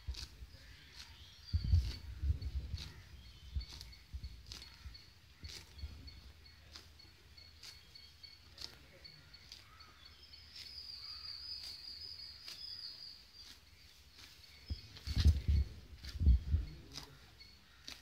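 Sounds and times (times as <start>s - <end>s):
cow tearing grass: 0.0s - 8.9s, 10.4s - 17.2s.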